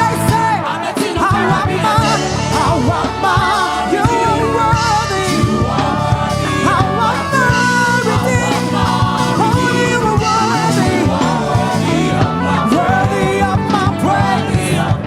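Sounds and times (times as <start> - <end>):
band sustained instruments: 0.0 - 15.0
steady drum beat: 0.0 - 15.0
person singing wavering notes: 1.5 - 14.7.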